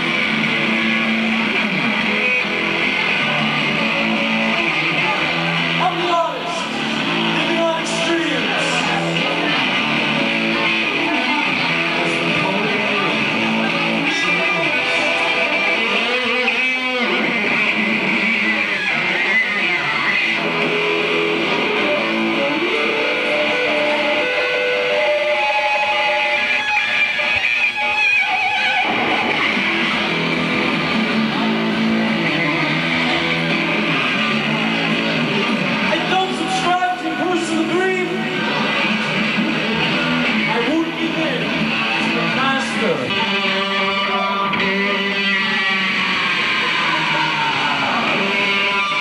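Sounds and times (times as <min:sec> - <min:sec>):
electric guitar ringing notes: 0:00.0 - 0:49.0.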